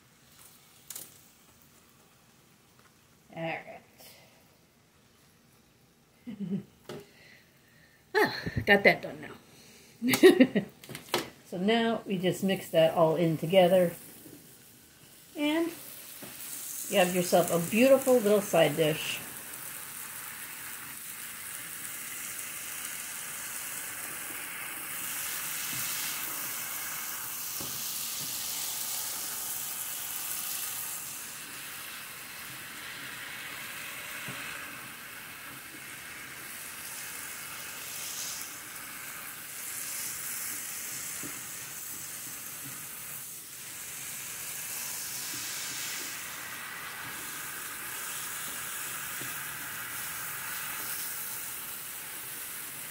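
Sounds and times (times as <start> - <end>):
vegetables sizzling in skillet: 0.0 - 7.9, 9.5 - 52.9.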